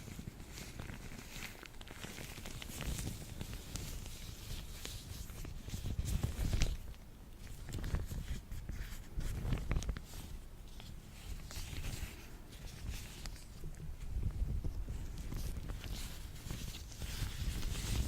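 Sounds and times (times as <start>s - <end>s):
gloved hands rubbing lotion: 0.0s - 18.0s.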